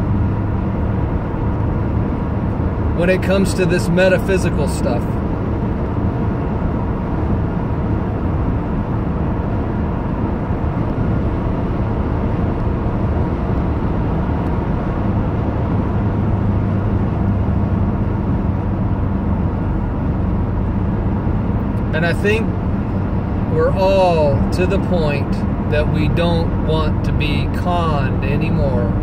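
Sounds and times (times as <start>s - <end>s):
car road noise with low hum: 0.0s - 29.0s.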